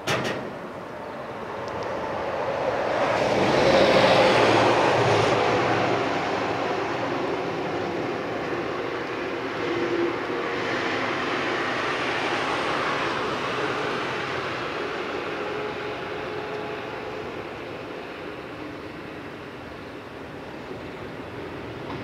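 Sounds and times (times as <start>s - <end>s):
rushing vehicle noise: 0.0s - 22.0s.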